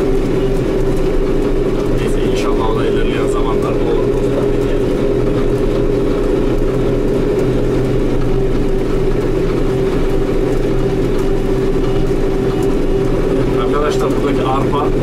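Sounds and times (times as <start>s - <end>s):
steady whine: 0.0s - 15.0s
tractor engine from inside cab: 0.0s - 15.0s.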